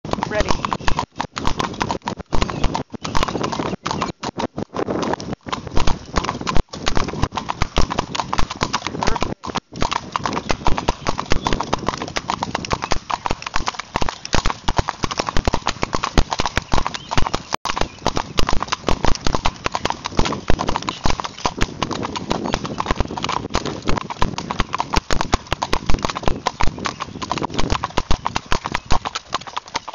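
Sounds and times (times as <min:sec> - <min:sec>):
horse hoofbeats: 0:00.0 - 0:29.9.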